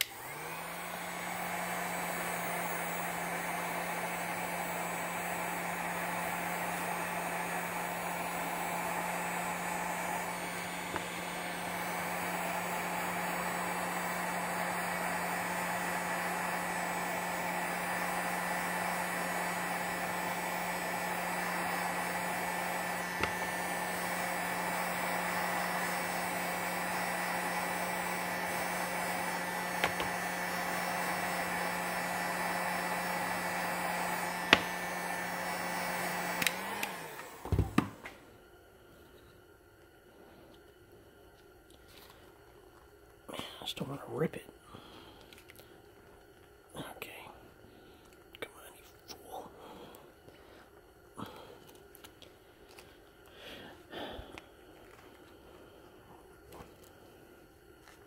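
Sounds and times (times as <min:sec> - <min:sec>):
heat gun blowing: 0:00.0 - 0:38.6, 0:49.5 - 0:58.0.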